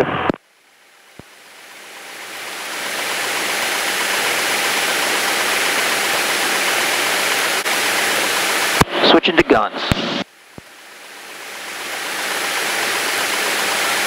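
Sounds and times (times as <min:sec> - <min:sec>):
light aircraft engine drone in cabin: 0:00.0 - 0:08.8, 0:10.2 - 0:14.0.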